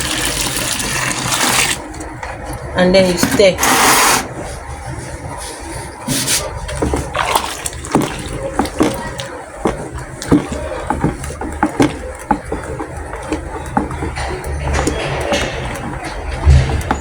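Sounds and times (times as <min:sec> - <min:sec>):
liquid sloshing in bucket: 0:00.0 - 0:17.0
stirrer knocking and scraping bucket: 0:00.0 - 0:17.0.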